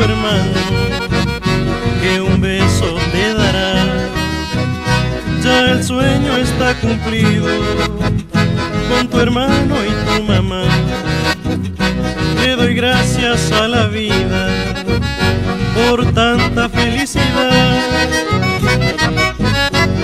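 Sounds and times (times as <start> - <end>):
accordion melody: 0.0 - 20.0
pulsing bass rhythm: 0.0 - 20.0.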